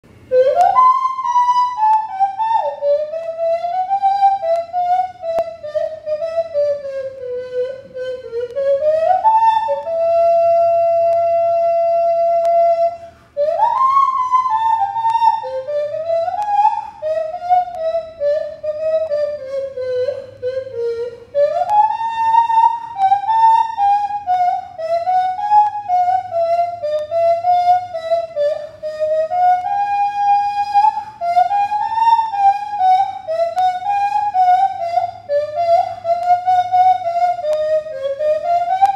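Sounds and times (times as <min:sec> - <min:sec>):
nose flute melody: 0:00.1 - 0:38.9.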